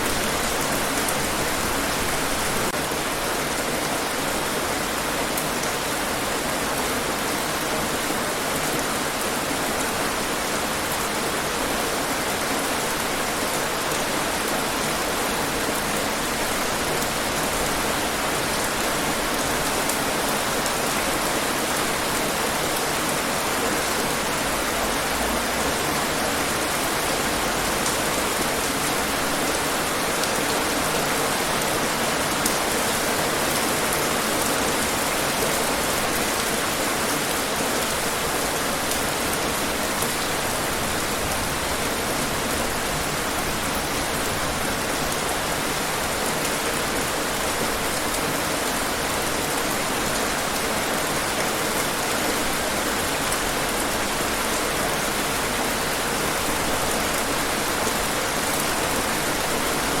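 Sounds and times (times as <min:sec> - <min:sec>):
rain on hard surfaces: 0:00.0 - 1:00.0.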